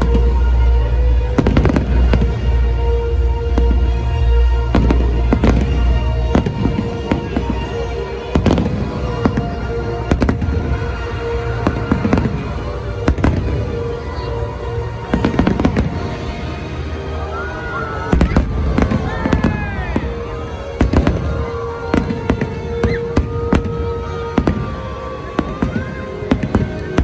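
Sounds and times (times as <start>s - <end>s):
music playing: 0.0s - 27.0s
fireworks bursting: 1.2s - 2.8s, 3.4s - 27.0s.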